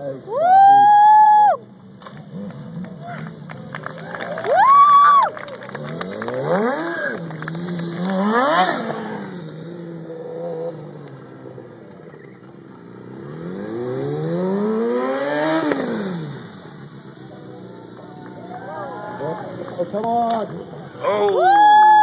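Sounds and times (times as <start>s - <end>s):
motorcycle engine revving: 1.7s - 3.9s, 5.6s - 21.3s.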